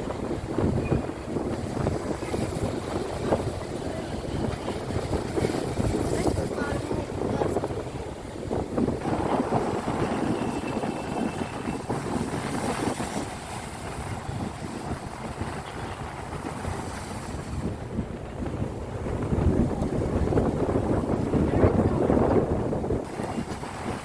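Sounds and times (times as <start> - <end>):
sea waves washing in: 0.0 - 24.0
wind buffeting microphone: 0.0 - 24.0.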